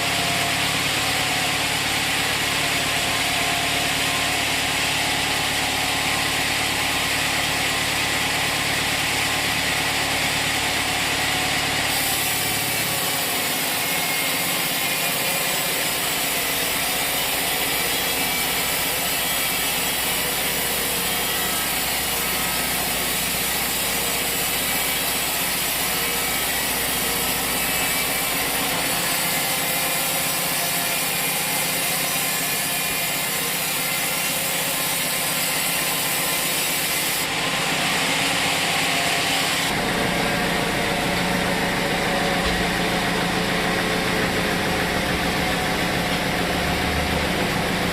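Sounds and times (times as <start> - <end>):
saw cutting: 0.0 - 47.9
sawmill engine: 0.0 - 47.9.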